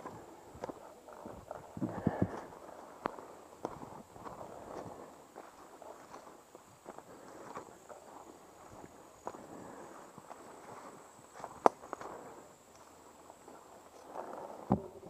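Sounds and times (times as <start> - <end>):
footsteps through grass and brush: 0.0 - 15.0.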